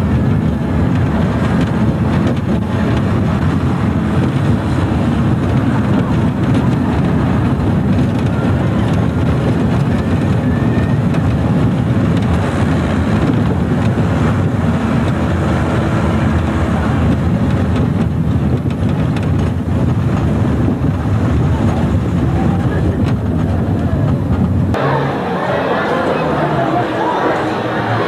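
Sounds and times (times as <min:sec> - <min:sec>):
ride train rumbling on track: 0:00.0 - 0:28.0
wind buffeting microphone: 0:00.0 - 0:28.0.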